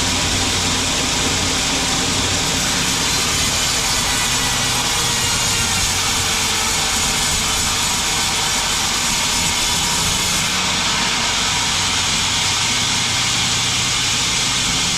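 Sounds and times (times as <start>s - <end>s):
saw hissing: 2.4s - 14.9s.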